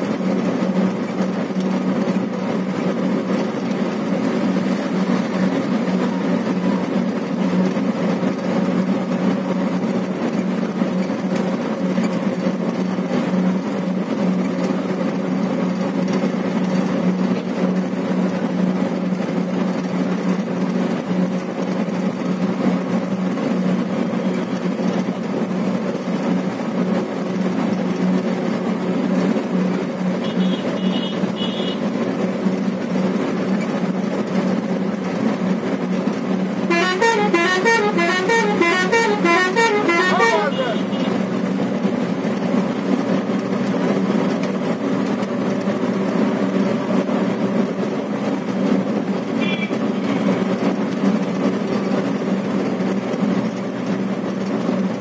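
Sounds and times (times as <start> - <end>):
vehicle engine and road drone: 0.0 - 55.0.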